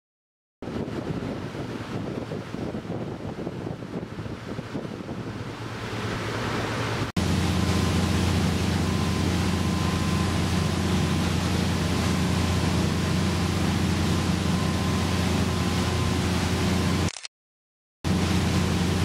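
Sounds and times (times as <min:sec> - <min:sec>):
rushing wind: 0:00.6 - 0:16.9
motorboat engine drone: 0:00.6 - 0:17.1, 0:18.1 - 0:19.0
water noise: 0:00.6 - 0:17.1, 0:18.1 - 0:19.0.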